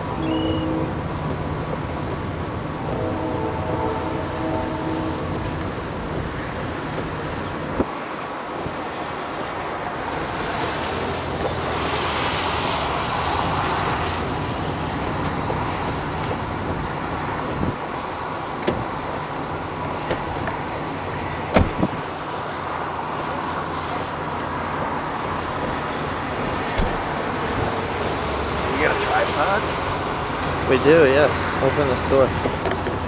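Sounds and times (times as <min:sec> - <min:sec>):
road and engine noise: 0:00.0 - 0:33.0.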